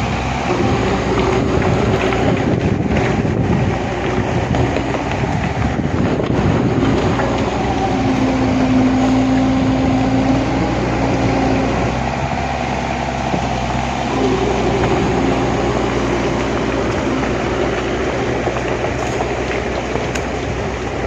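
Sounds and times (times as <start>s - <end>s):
large engine running under load: 0.0s - 21.0s.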